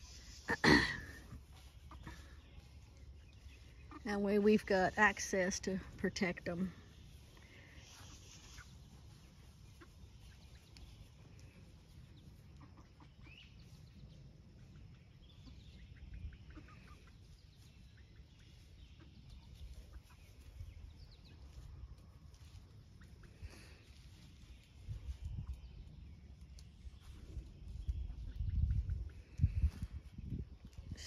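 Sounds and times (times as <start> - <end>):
hens clucking: 0.0 - 6.2, 6.9 - 24.4, 27.0 - 30.0.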